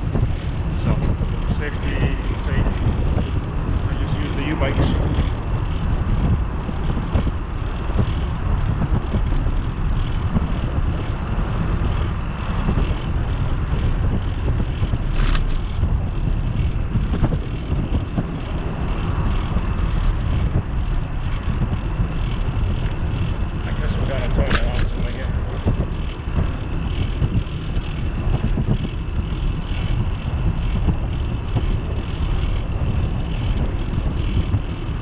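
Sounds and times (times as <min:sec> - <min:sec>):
bicycle tyre road noise: 0:00.0 - 0:35.0
wind buffeting microphone: 0:00.0 - 0:35.0.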